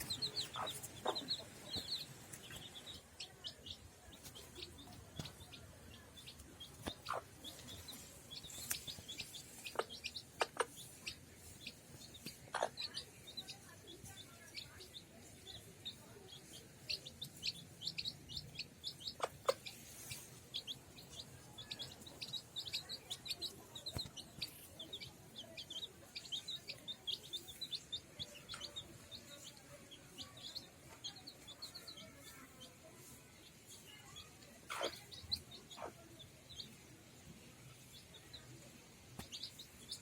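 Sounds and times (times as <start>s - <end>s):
chicks peeping: 0.0s - 40.0s.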